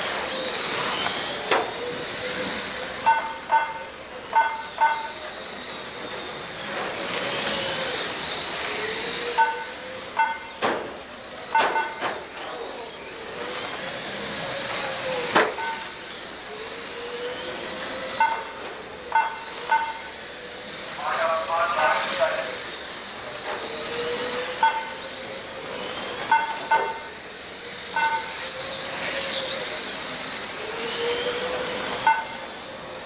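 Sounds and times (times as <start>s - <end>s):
model car motors whining: 0.0s - 33.0s.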